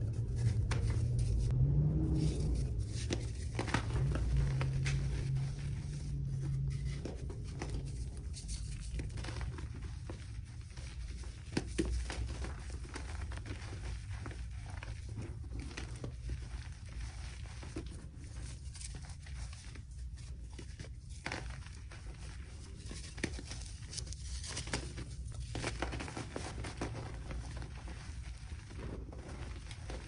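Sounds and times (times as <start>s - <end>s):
chalk blocks crunching and crumbling: 2.1s - 30.0s.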